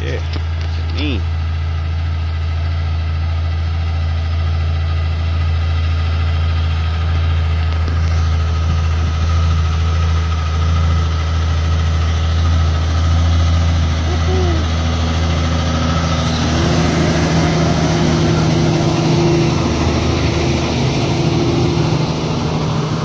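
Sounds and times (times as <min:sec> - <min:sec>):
truck diesel engine idling: 0:00.0 - 0:23.0.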